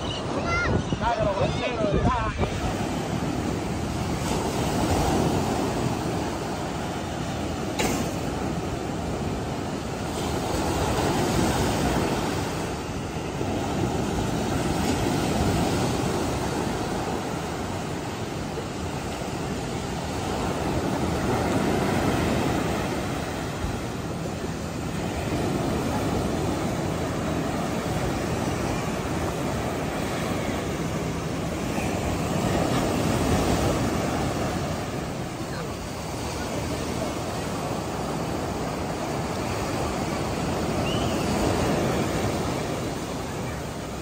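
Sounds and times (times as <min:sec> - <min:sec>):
ocean waves breaking on shore: 0:00.0 - 0:44.0.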